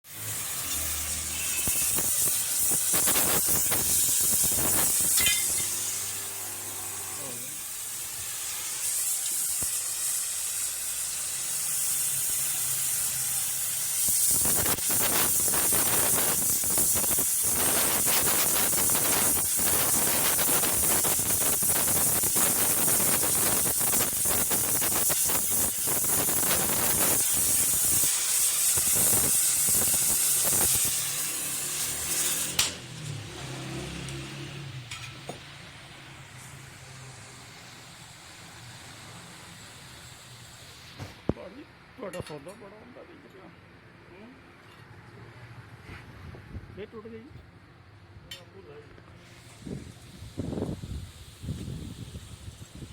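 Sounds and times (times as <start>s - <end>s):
gas welding torch hissing: 0.1s - 41.6s, 49.1s - 52.9s
crackling and popping flame: 0.1s - 41.7s, 48.3s - 52.9s.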